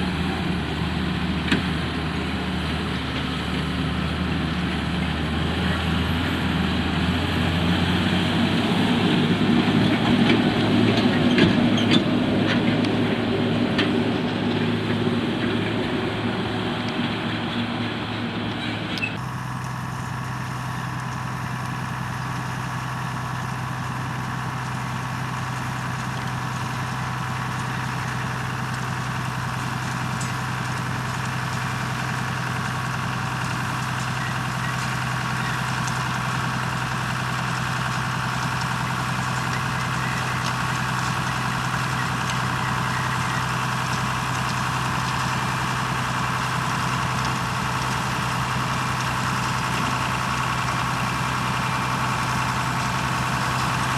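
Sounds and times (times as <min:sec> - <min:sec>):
diesel machinery running: 0:00.0 - 0:53.9.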